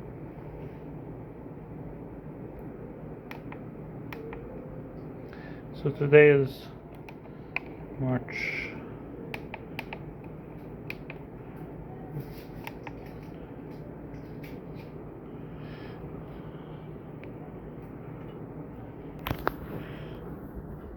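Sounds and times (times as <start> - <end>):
low background hum: 0.0 - 20.9.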